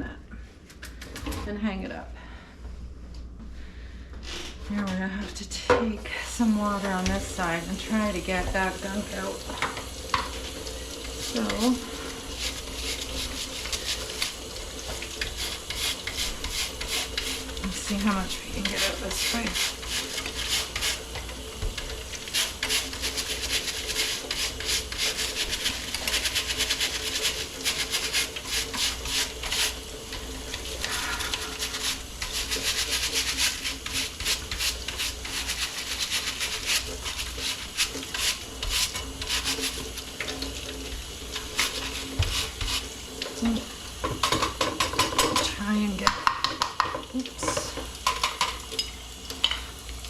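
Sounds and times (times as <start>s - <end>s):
plastic brush scrubbing: 4.2s - 46.2s.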